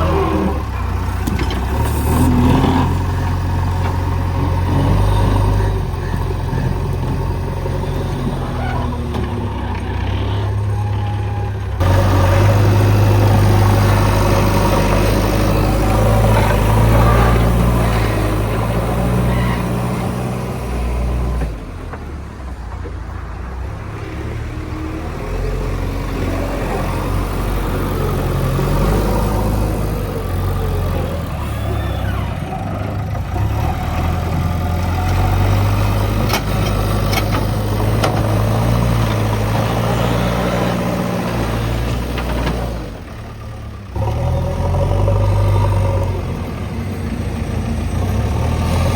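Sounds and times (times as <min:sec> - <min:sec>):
backhoe diesel engine working: 0:00.0 - 0:48.9.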